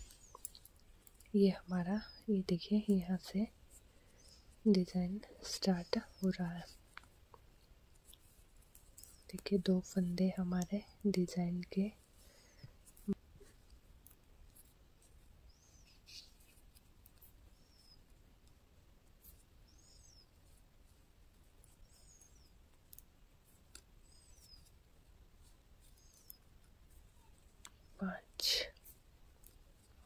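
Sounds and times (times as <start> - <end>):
knitting needles clicking: 0.0 - 3.5, 4.2 - 11.9, 12.6 - 15.2, 16.1 - 20.6, 21.3 - 27.9
faint bird chirp: 0.0 - 7.1, 8.3 - 13.6, 14.5 - 18.2, 19.2 - 24.8, 25.4 - 28.9.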